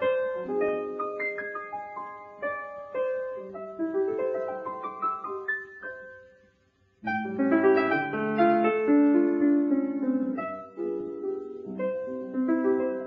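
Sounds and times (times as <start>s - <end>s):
solo piano playing: 0.0s - 13.0s.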